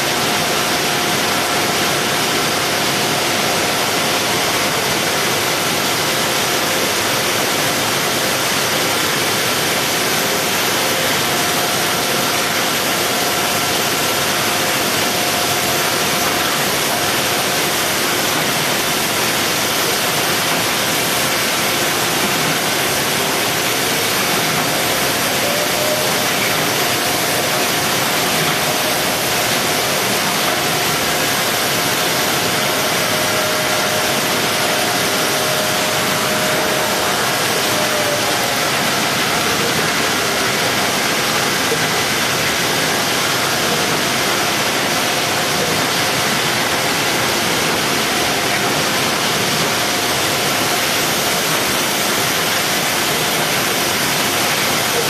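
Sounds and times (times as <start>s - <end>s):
conveyor machinery hiss: 0.0s - 55.0s.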